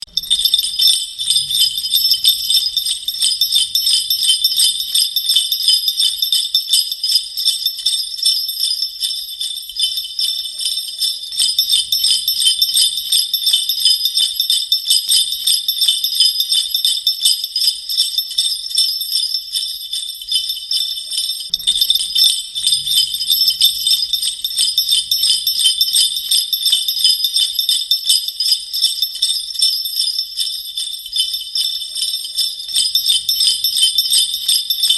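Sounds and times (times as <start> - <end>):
sleigh bells jingling: 0.0 - 34.9.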